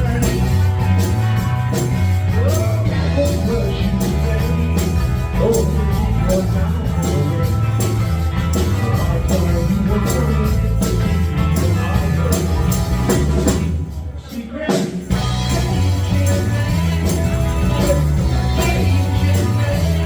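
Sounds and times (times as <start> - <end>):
heavy bass line: 0.0 - 14.4, 15.1 - 20.0
drums: 0.0 - 20.0
rock band playing: 0.0 - 20.0.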